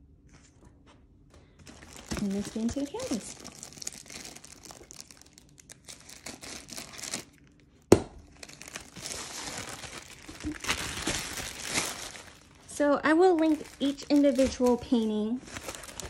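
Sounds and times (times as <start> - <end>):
plastic bag crinkling: 1.5 - 16.0.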